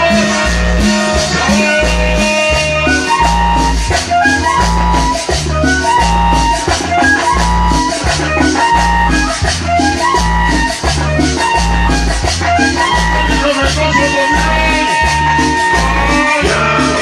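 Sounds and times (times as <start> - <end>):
latin dance music: 0.0 - 17.0.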